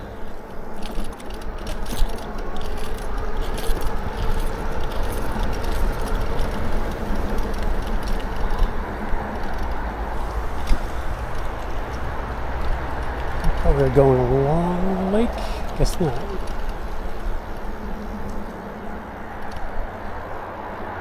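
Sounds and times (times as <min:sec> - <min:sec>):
e-bike rattling and jingling: 0:00.0 - 0:21.0
tyre and wind noise: 0:00.0 - 0:21.0.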